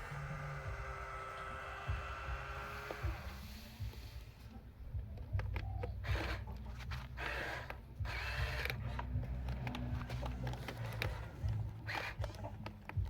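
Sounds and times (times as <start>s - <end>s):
toy motors whirring and grinding: 0.0s - 4.5s, 5.2s - 13.0s
steady low hum: 0.0s - 13.0s.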